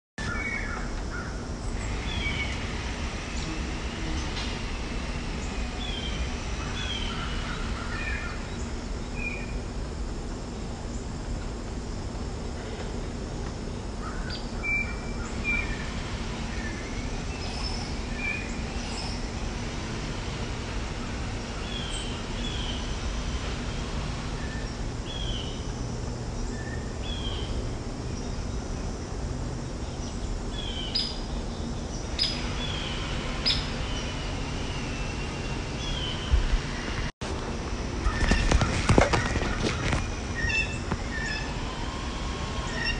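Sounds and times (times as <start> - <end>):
songbirds chirping and singing: 0.2 - 9.6, 12.6 - 37.1, 38.0 - 42.9.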